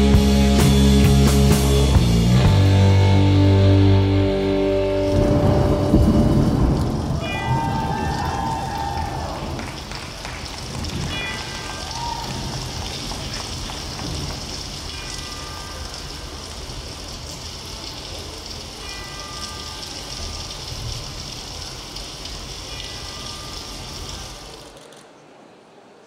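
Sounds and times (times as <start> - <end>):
rain-like noise: 0.0 - 26.0.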